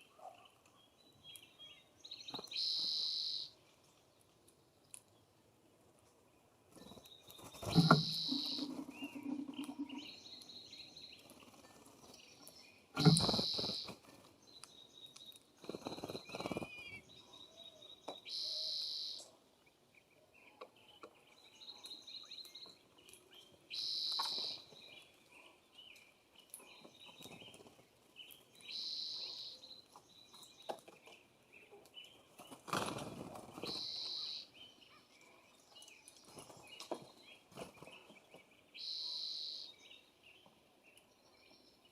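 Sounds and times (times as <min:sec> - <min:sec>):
songbirds calling: 0:00.0 - 0:41.9.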